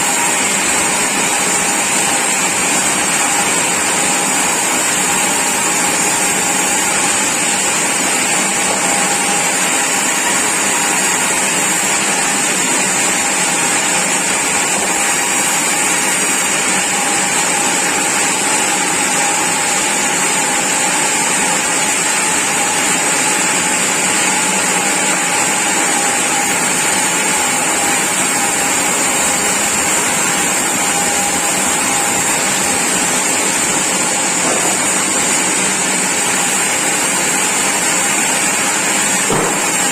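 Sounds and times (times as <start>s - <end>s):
sawmill saw machinery running: 0.0s - 39.9s.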